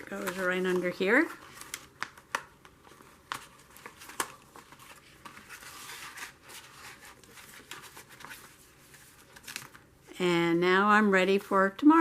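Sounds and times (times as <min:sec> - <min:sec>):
paper rustling: 0:00.0 - 0:09.9.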